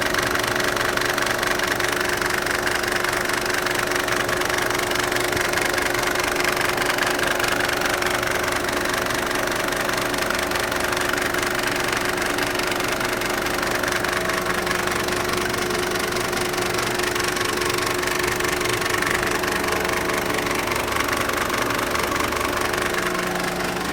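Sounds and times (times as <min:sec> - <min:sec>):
diesel engine idling with knock: 0:00.0 - 0:23.9.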